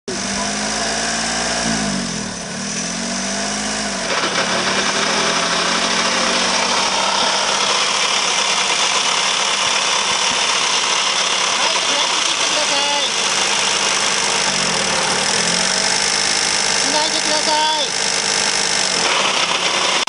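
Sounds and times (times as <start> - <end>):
rough mechanical noise: 0.1 - 20.0
vehicle engine idling: 0.1 - 20.0.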